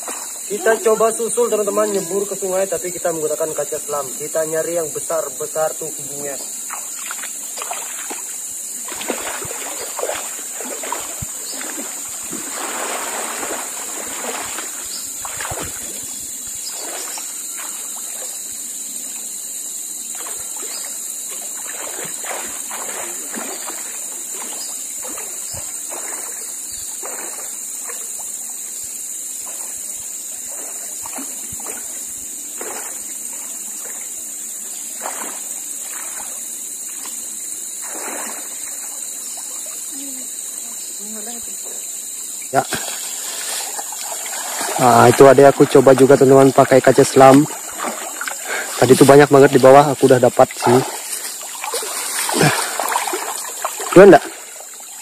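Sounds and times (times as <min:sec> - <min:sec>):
water splashing from wading: 0:00.0 - 0:03.0, 0:06.2 - 0:19.3, 0:20.0 - 0:55.0.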